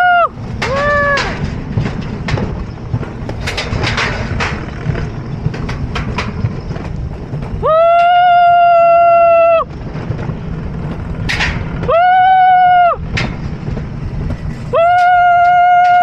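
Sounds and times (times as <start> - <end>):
sled rumbling on steel rails: 0.0 - 16.0.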